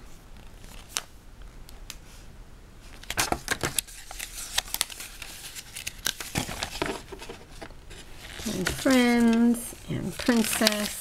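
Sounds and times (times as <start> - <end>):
paper pages rustling: 0.4 - 1.1, 2.8 - 11.0.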